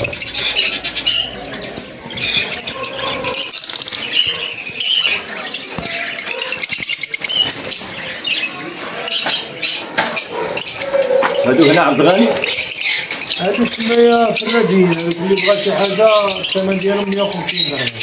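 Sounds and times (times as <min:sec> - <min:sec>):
lovebirds chirping and squawking: 0:00.0 - 0:18.0.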